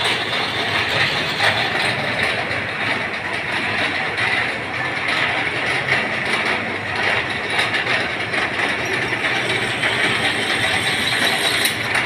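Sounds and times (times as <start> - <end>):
machine whirring: 0.0 - 12.0.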